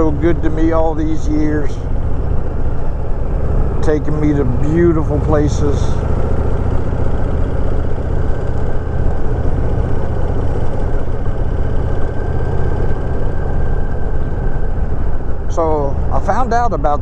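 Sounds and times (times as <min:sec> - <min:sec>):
motorcycle engine under load: 0:00.0 - 0:17.0.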